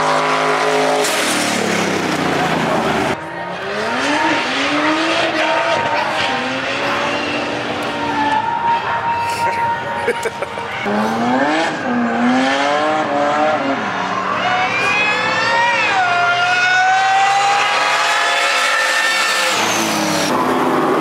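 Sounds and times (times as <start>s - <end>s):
car engine accelerating: 0.0s - 9.0s, 10.5s - 21.0s.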